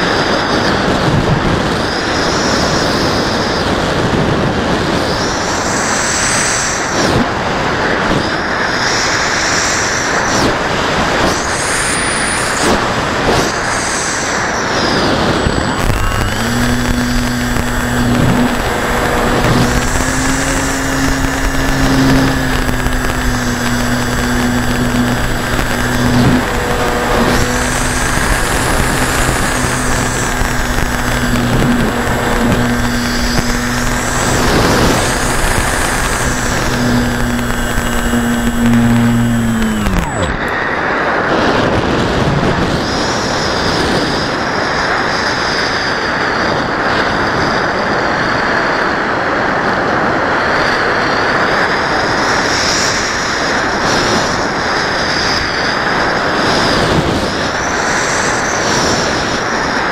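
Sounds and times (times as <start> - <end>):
model airplane motor and propeller: 0.0 - 59.9
wind rushing over microphone: 0.0 - 59.9.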